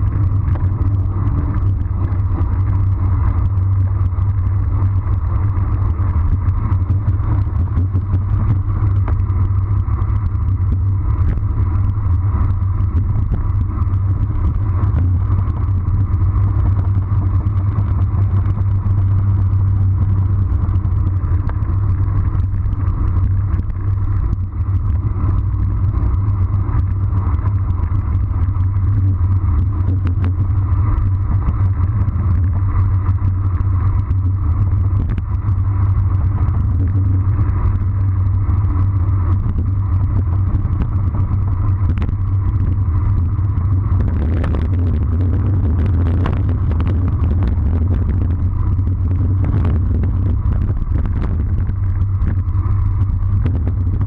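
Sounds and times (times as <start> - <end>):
wind rush: 0.0 - 54.0.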